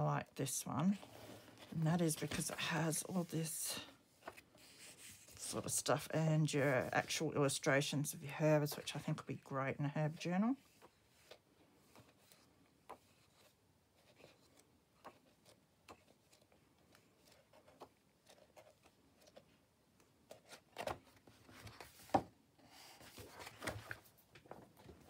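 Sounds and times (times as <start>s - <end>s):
book pages rustling: 0.8s - 7.6s, 10.1s - 25.0s.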